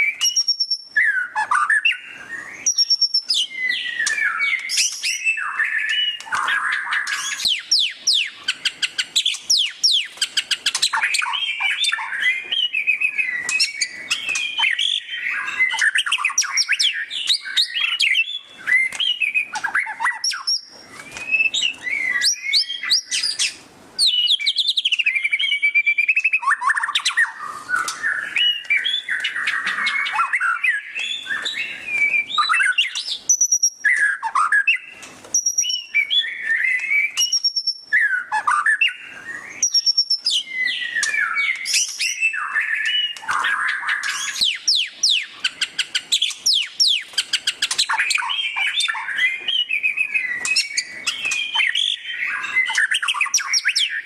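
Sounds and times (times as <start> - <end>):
songbird singing whistled phrases: 0.0 - 54.0.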